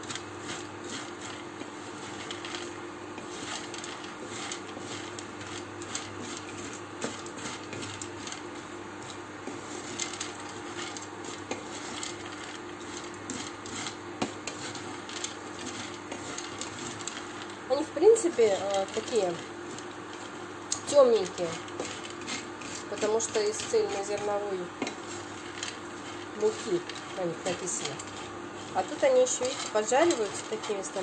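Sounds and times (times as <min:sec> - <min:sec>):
spatula scraping frying pan: 0:00.0 - 0:31.0
steady hum: 0:00.0 - 0:31.0
pasta clicking against pan: 0:00.1 - 0:17.7, 0:18.5 - 0:31.0.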